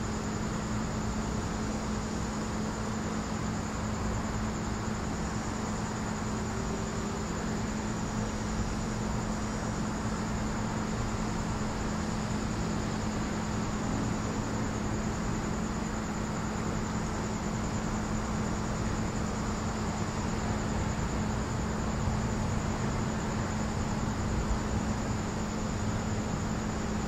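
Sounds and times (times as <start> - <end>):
crickets trilling: 0.0 - 27.0
low hum and hiss: 0.0 - 27.0.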